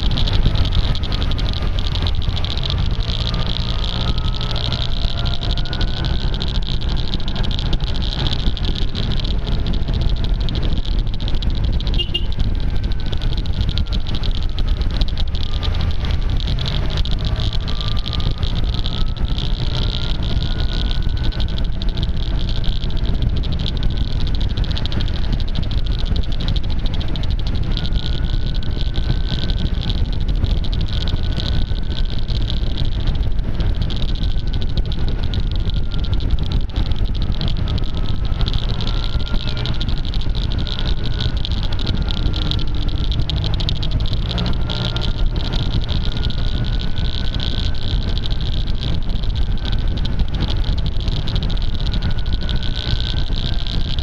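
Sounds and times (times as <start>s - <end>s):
fast clicking crackle: 0.0s - 54.0s
rumble of wind and engine: 0.0s - 54.0s.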